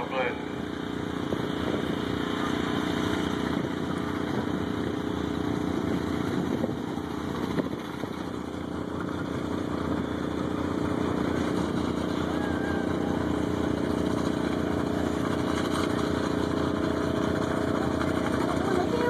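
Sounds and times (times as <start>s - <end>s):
engines idling: 0.0s - 19.0s.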